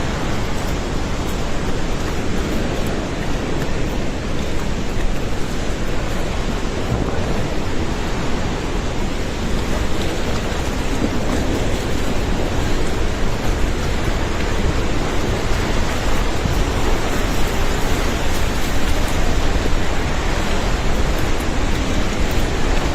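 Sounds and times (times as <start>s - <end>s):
river rushing: 0.0s - 22.9s.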